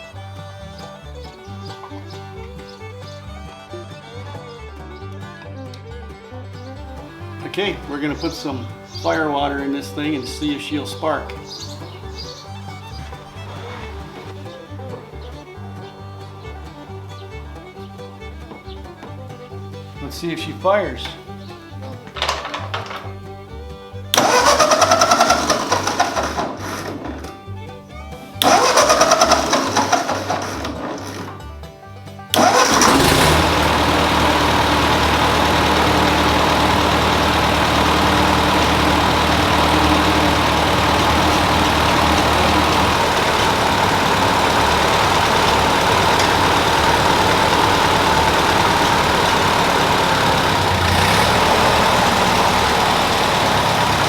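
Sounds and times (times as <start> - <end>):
background music: 0.0 - 54.0
tractor engine cranking: 0.0 - 54.0
tractor engine running: 0.0 - 54.0.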